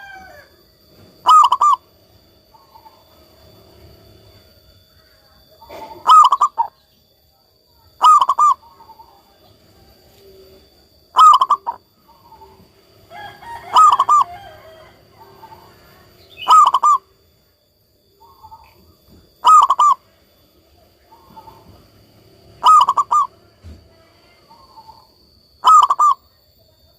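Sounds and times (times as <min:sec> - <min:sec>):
dove cooing: 0:00.0 - 0:04.5, 0:05.4 - 0:06.8, 0:07.9 - 0:17.3, 0:18.2 - 0:20.2, 0:20.9 - 0:26.3.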